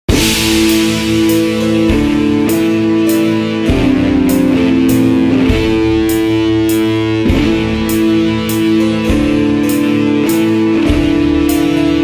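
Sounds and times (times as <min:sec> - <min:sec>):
symphonic metal with guitar: 0:00.1 - 0:12.0.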